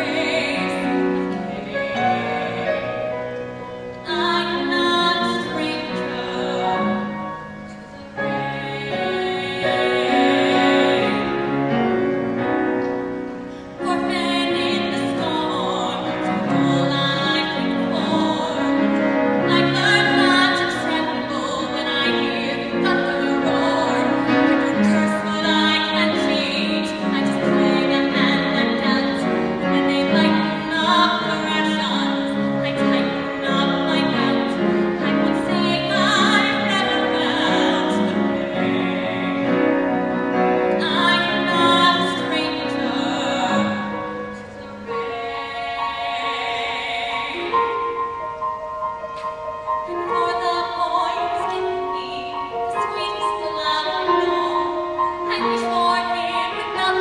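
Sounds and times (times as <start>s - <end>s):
woman singing: 0.0s - 3.2s, 4.0s - 11.6s, 13.8s - 48.0s, 49.9s - 57.0s.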